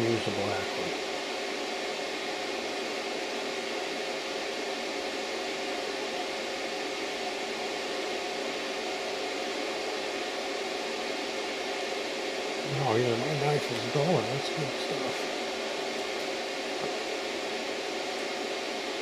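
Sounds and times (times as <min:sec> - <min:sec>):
electric blower motor hum: 0:01.0 - 0:19.0.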